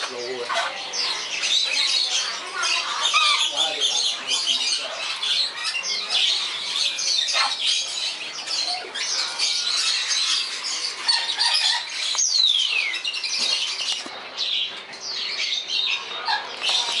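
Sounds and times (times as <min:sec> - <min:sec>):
birds chirping and squawking: 0:00.0 - 0:17.0.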